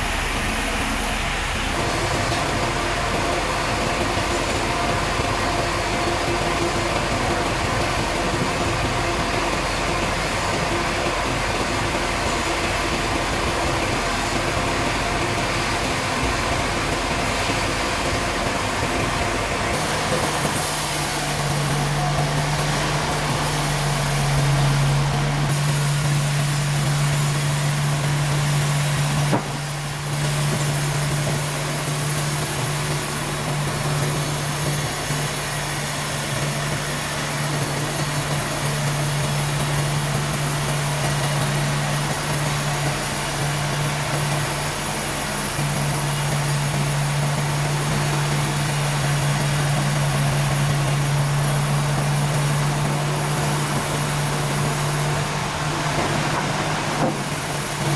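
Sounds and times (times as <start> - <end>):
sawmill machinery running: 0.0 - 57.9.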